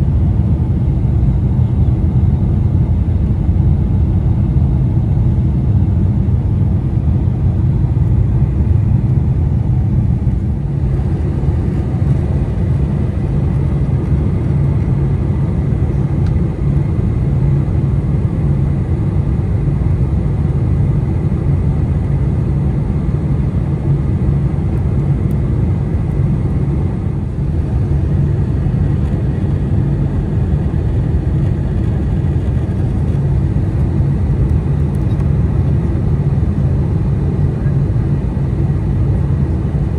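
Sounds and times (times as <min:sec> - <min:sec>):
jet engines and airflow rumble: 0:00.0 - 0:39.9.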